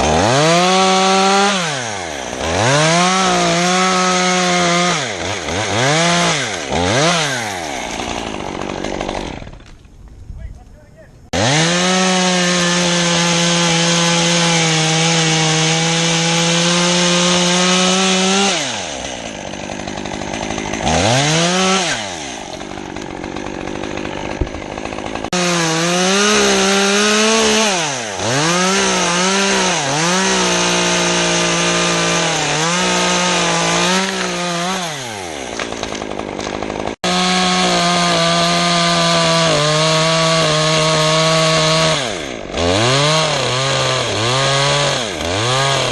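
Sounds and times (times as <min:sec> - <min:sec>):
chainsaw cutting wood: 0:00.0 - 0:10.1, 0:11.3 - 0:45.9.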